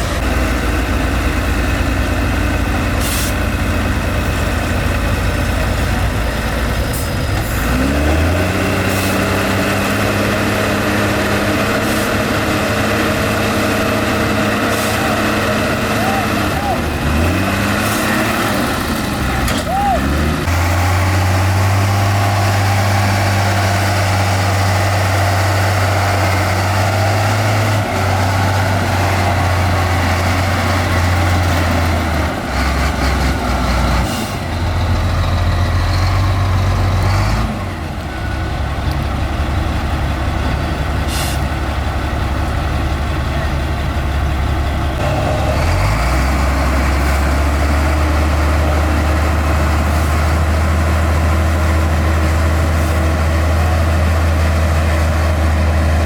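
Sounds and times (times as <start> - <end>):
heavy diesel engines working: 0.0 - 56.0.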